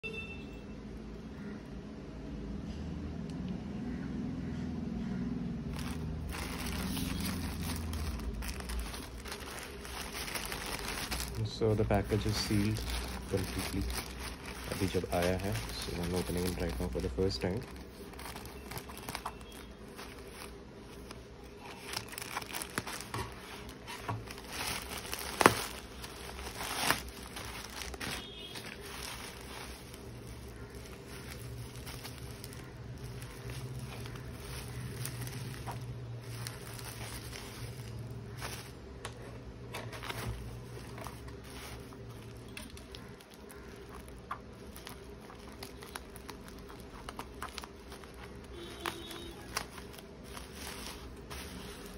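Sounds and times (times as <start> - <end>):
plastic and bubble wrap crinkling: 5.6 - 51.9.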